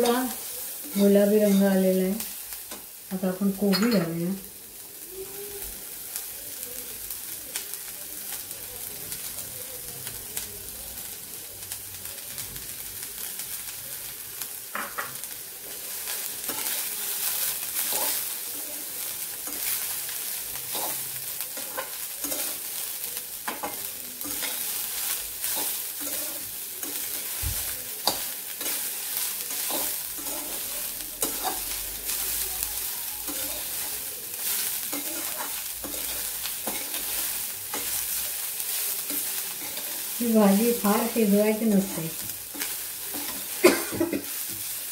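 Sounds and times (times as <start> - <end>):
cabbage sizzling in hot oil: 0.0 - 44.9.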